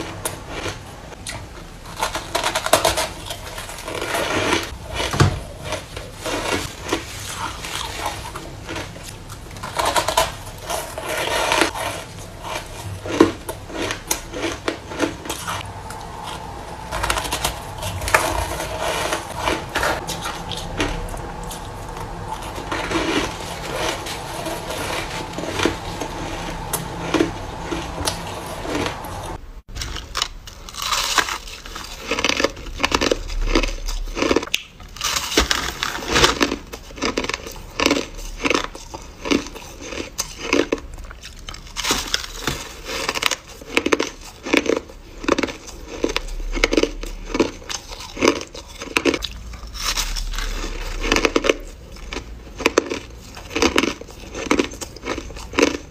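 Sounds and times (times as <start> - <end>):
person chewing crushed ice: 0.0 - 55.9.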